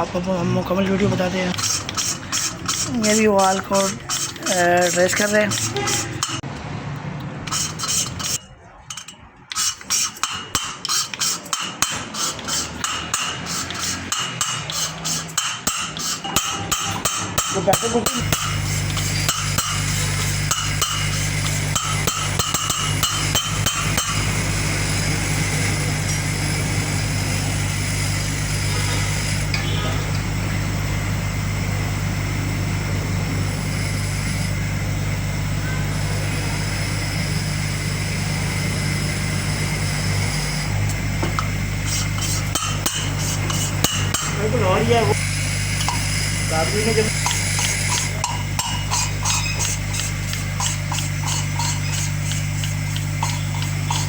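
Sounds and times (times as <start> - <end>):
machine hum: 0.0 - 10.6, 11.5 - 54.0
rhythmic metal tool strokes: 1.0 - 6.5, 7.4 - 32.7, 33.7 - 54.0.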